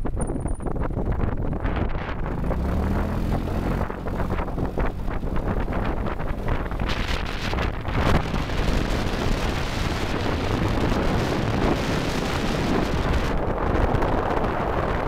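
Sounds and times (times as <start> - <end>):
buggy engine running: 0.0 - 15.0
wind buffeting microphone: 0.0 - 15.0.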